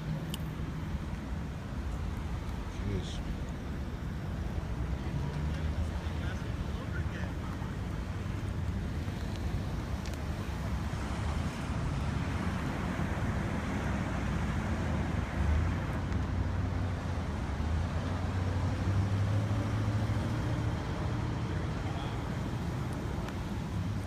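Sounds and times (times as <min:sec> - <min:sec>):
cars passing: 0:00.0 - 0:24.0
road traffic rumble: 0:00.0 - 0:24.0.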